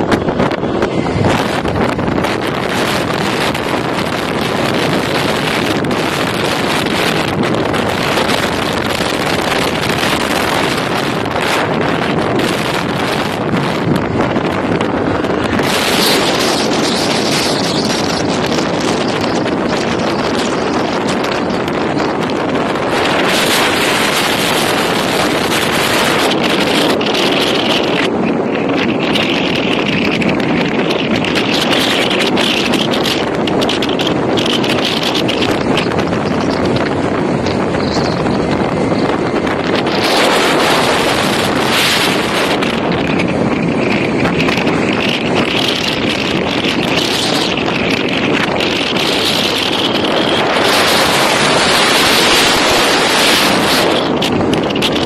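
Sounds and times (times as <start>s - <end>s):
motorcycle running: 0.0s - 55.0s
wind on microphone: 0.0s - 55.0s.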